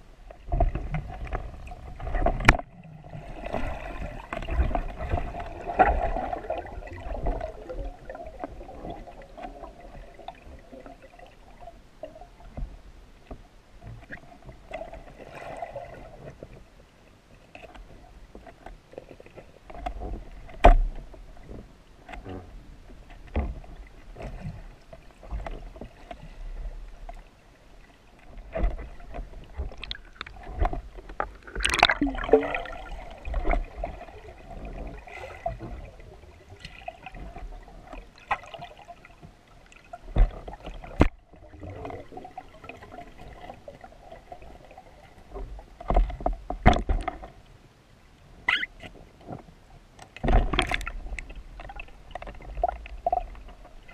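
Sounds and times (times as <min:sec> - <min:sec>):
muffled underwater rumble: 0:00.0 - 0:47.4
water swishing: 0:00.0 - 0:47.5, 0:50.2 - 0:53.9
underwater clicks and knocks: 0:00.2 - 0:02.8, 0:03.5 - 0:10.5, 0:17.5 - 0:27.2, 0:28.2 - 0:44.5, 0:45.1 - 0:47.4, 0:48.5 - 0:53.9.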